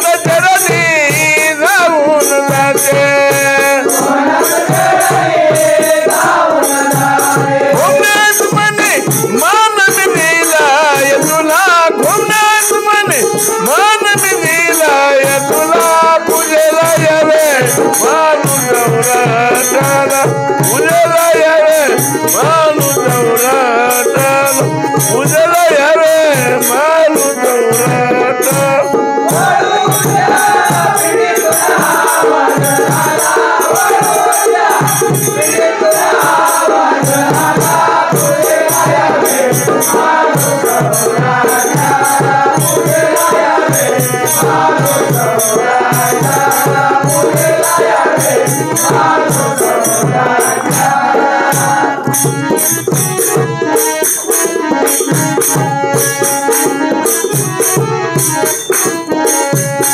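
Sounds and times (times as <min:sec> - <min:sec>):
hand drum rhythm: 0:00.0 - 0:59.9
harmonium melody: 0:00.0 - 0:59.9.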